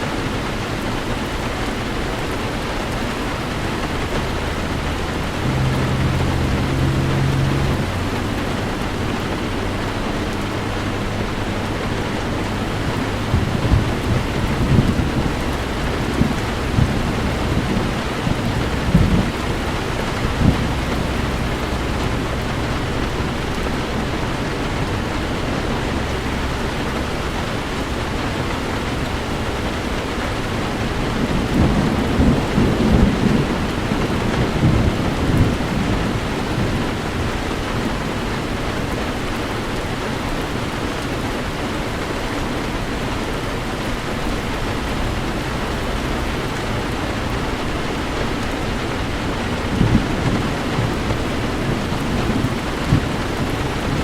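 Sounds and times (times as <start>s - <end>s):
thunder rumbling: 0.0s - 40.8s, 41.4s - 54.0s
heavy rain on a car: 0.0s - 54.0s.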